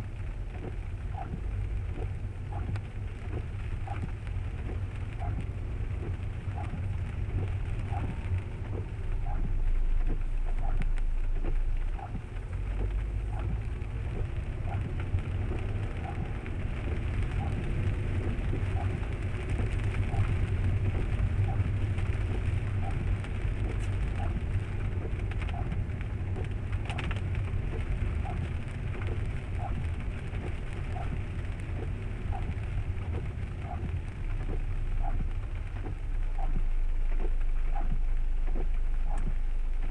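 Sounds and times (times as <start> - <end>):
rain hiss: 0.0 - 39.9
road and engine rumble: 0.0 - 39.9.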